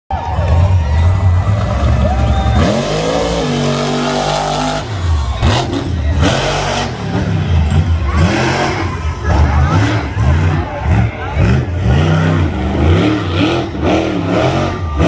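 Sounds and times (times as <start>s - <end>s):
monster truck engine revving: 0.1s - 15.0s.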